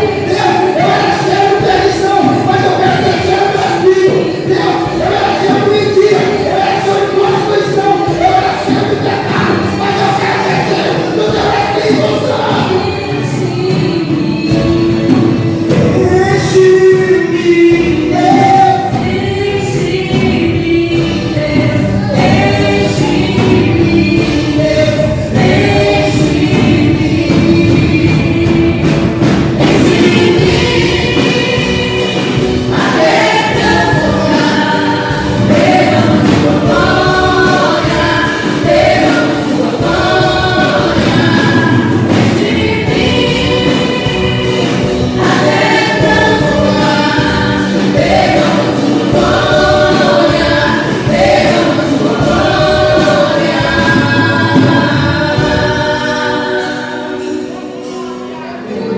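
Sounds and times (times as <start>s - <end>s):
choir singing gospel song: 0.0s - 58.9s
musical accompaniment: 0.0s - 58.9s.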